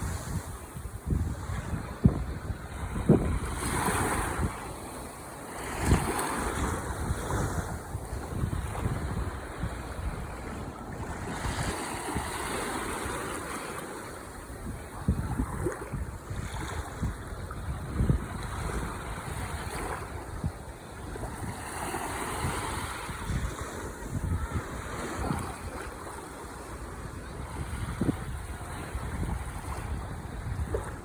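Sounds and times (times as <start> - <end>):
wind buffeting microphone: 0.0 - 13.5, 14.4 - 31.0
ocean waves breaking on shore: 0.0 - 31.0.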